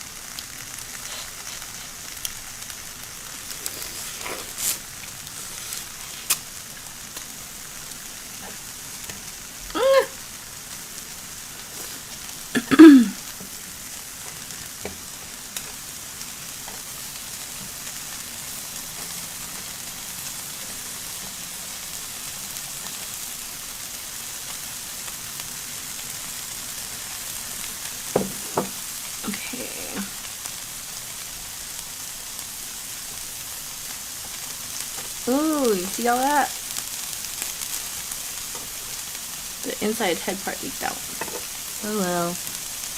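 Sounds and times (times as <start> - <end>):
food sizzling on a grill: 0.0 - 42.9.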